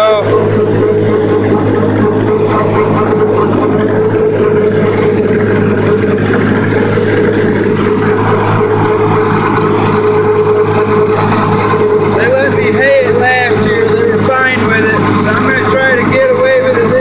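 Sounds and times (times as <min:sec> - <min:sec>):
steady hum: 0:00.0 - 0:17.0
tractor engine running: 0:00.0 - 0:17.0.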